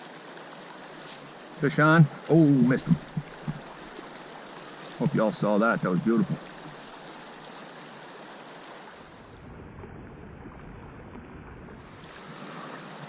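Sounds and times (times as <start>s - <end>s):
river rushing: 0.0s - 9.4s, 11.7s - 13.0s.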